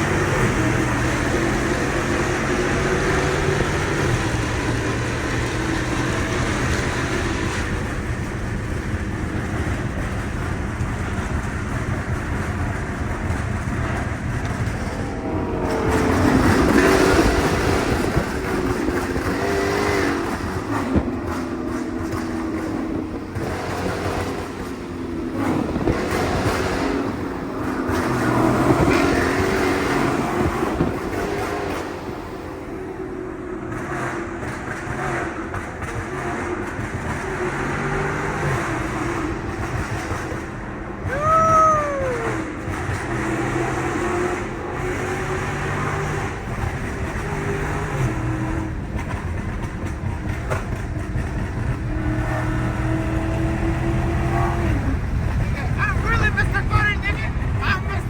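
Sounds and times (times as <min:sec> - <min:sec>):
car engine and exhaust: 0:00.0 - 0:58.0.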